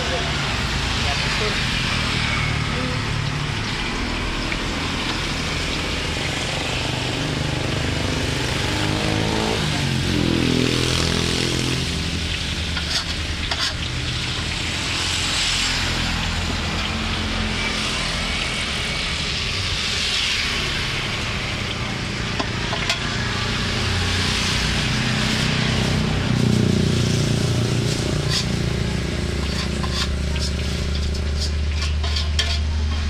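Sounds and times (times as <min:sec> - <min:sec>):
oil sizzling in a wok: 0:00.0 - 0:33.0
passing engine: 0:00.0 - 0:33.0.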